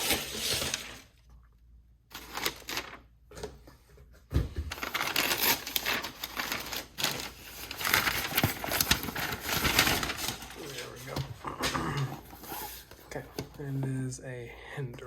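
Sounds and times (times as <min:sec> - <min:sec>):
cardboard and paper crackling: 0:00.0 - 0:01.2, 0:02.1 - 0:03.6, 0:04.6 - 0:14.1.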